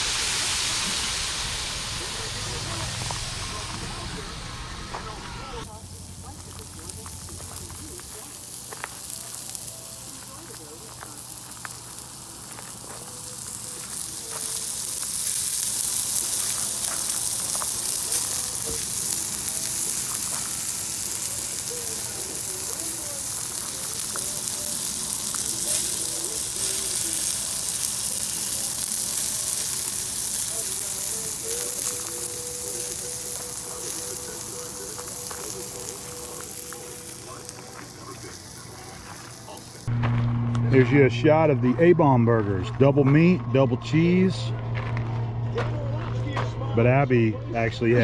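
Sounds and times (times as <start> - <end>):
crackles and pops: 0.0 - 40.7
patties sizzling on grill: 0.0 - 45.0
faint music: 1.8 - 48.0.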